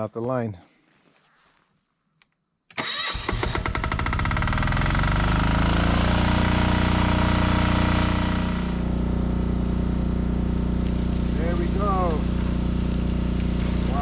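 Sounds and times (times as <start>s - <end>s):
generator engine starting and running: 2.8s - 14.0s.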